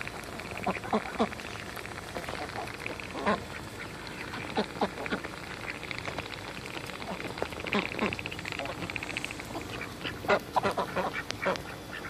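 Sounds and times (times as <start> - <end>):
ducks chattering bills: 0.0 - 12.0
ducks quacking: 0.5 - 1.5, 2.1 - 6.2, 6.8 - 12.0.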